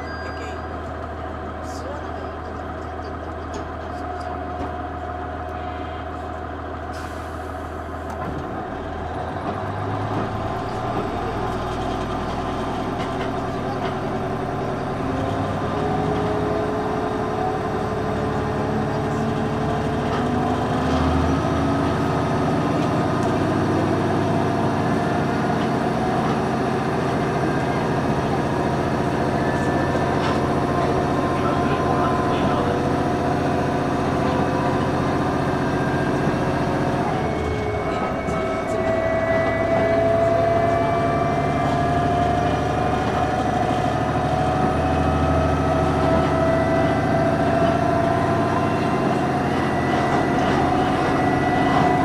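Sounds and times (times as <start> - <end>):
diesel railcar engine: 0.0 - 52.0.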